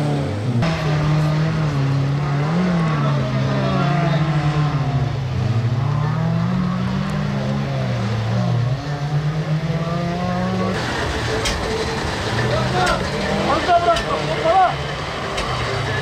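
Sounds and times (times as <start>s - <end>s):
car engine revving: 0.0s - 16.0s
rough noisy sound: 0.0s - 16.0s.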